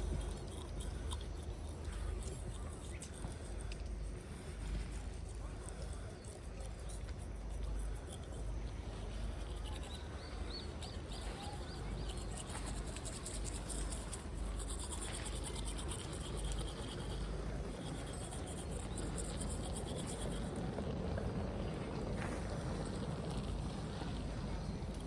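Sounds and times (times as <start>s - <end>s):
low wind rumble: 0.0s - 25.0s.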